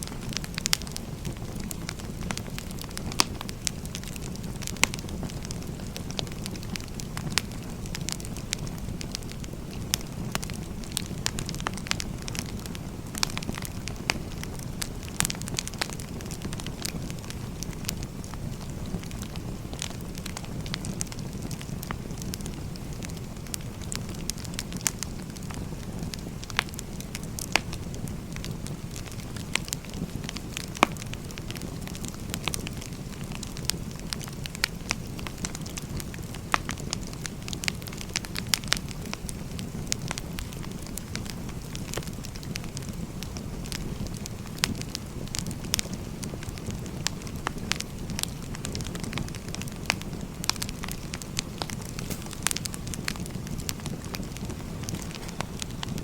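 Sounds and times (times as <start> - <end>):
fire burning low rush: 0.0 - 56.0
fire crackling and popping: 0.0 - 56.0.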